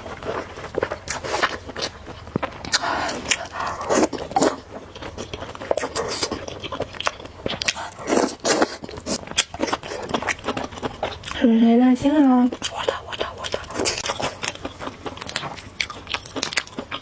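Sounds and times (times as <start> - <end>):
chewing and slurping noodles: 0.0 - 11.4, 12.5 - 17.0.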